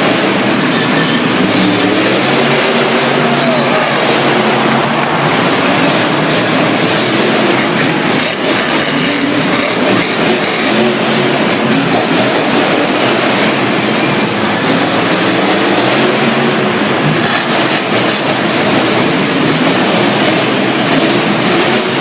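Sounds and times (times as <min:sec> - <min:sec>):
truck engine running loud: 0:00.0 - 0:22.0.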